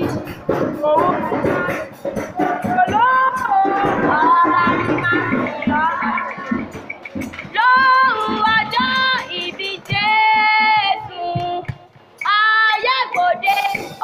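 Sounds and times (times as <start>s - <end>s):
person singing into a microphone: 0.0s - 6.8s, 7.6s - 14.0s
sharp percussive taps: 0.0s - 14.0s.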